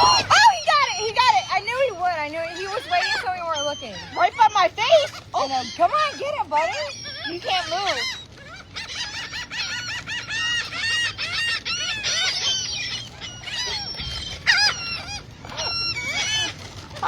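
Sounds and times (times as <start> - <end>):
seagulls squawking: 0.0 - 17.0.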